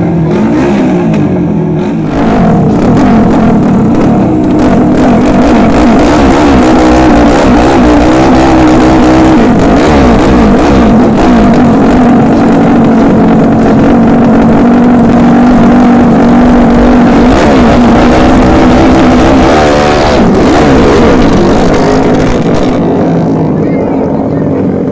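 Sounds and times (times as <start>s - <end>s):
racing motorcycle engines revving: 0.0s - 24.9s.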